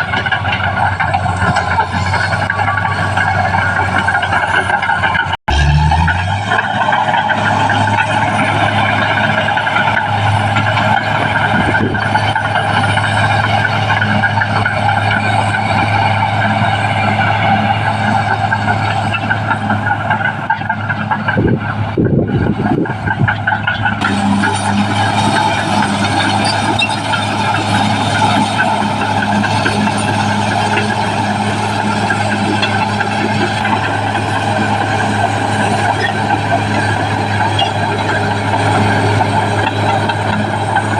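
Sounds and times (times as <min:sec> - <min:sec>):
bulldozer diesel engine running: 0:00.0 - 0:40.9
knocking and creaking: 0:00.0 - 0:40.9.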